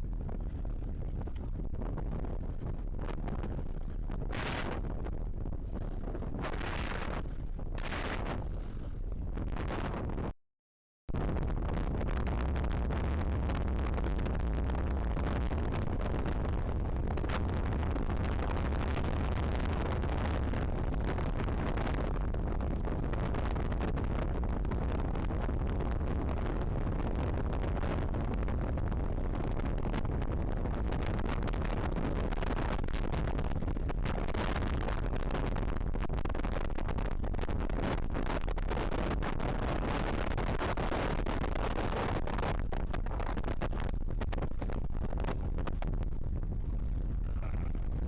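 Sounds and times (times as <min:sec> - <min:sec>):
wind buffeting microphone: 0:00.0 - 0:10.3, 0:11.1 - 0:48.0.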